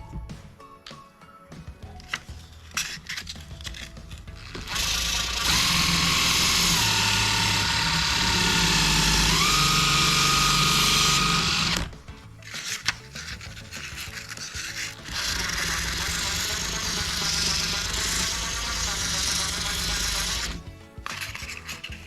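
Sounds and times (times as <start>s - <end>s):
electric motor tool whining: 3.8s - 22.0s.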